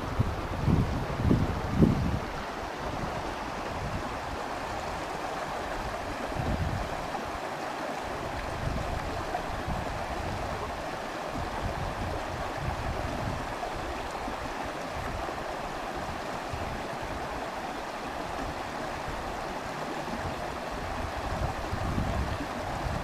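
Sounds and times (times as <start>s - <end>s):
creek water rushing over rocks: 0.0s - 23.0s.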